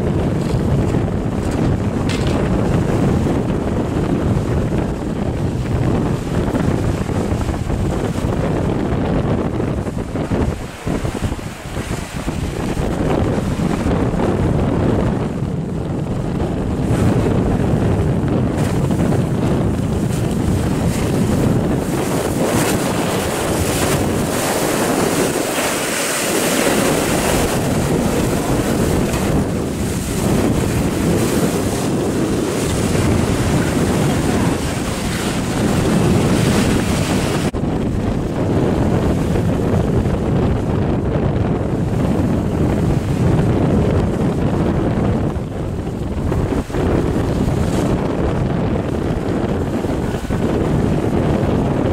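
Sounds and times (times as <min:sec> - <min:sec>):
waves breaking: 0:00.0 - 0:51.9
wind buffeting microphone: 0:00.0 - 0:51.9.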